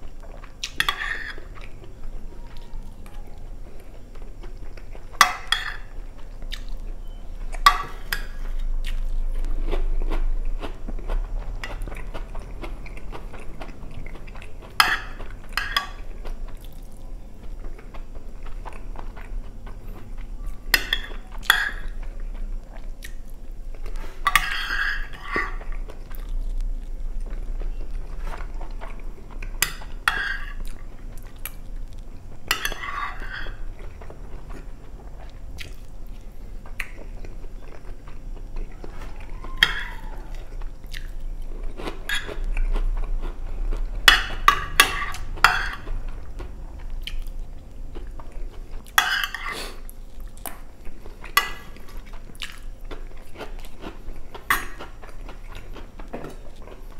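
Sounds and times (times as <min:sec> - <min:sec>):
close chewing with crunching: 0:00.0 - 0:56.9.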